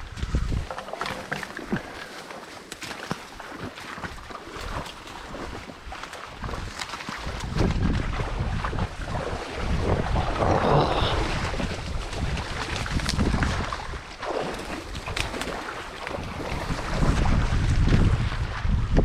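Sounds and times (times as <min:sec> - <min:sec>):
wind buffeting microphone: 0:00.0 - 0:02.0, 0:04.1 - 0:19.0.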